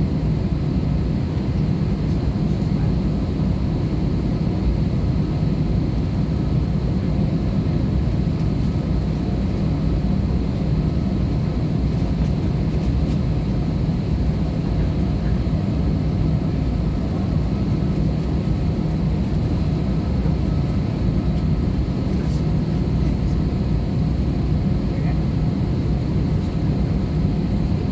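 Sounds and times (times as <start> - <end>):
airplane cabin drone: 0.0 - 27.9.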